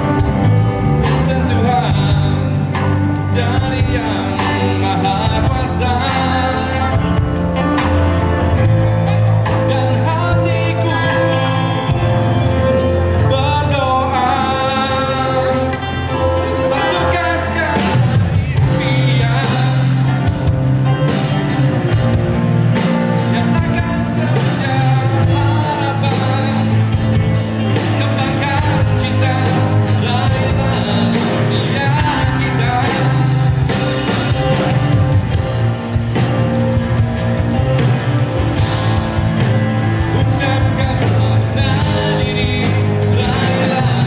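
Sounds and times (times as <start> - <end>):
drum kit beat: 0.0 - 44.0
electric and acoustic guitars: 0.0 - 44.0
electric bass: 0.0 - 44.0
keyboard: 0.0 - 44.0.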